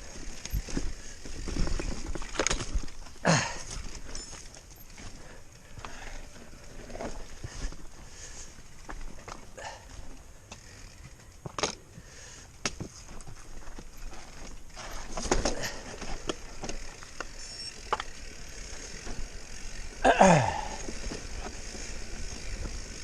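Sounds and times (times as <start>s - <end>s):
bike frame and chain clicking: 0.0s - 23.0s
bike tyres on dirt and stones: 0.0s - 23.0s.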